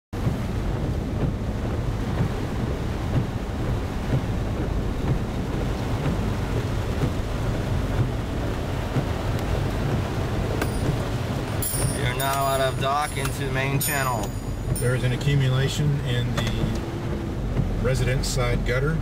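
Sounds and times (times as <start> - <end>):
gusting wind: 0.2 - 17.9
heavy rain on a car: 0.2 - 19.0.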